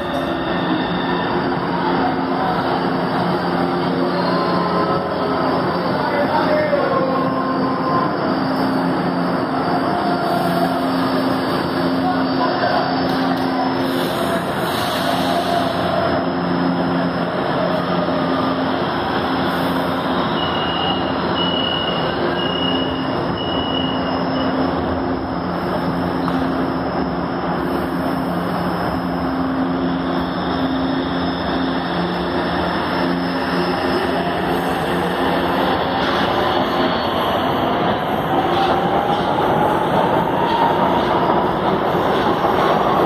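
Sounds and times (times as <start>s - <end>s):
train electric hum: 0.0s - 43.0s
train moving off: 0.0s - 43.0s.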